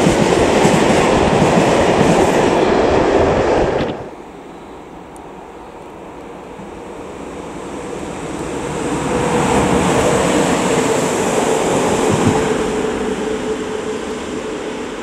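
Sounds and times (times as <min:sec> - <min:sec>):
wheels rushing on rail: 0:00.0 - 0:15.0.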